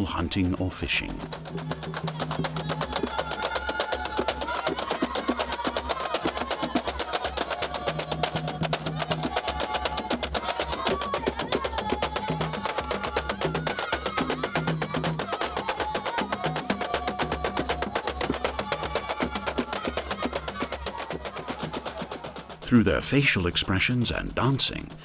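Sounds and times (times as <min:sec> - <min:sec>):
fast steady drumming: 0:00.0 - 0:25.0
voices singing: 0:00.0 - 0:25.0.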